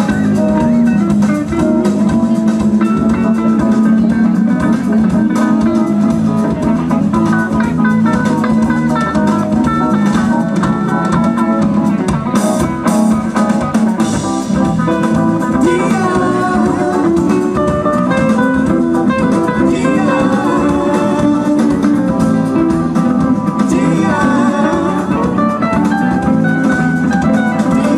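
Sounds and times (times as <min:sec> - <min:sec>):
bass guitar: 0:00.0 - 0:27.9
drum kit: 0:00.0 - 0:27.9
electric guitars: 0:00.0 - 0:27.9.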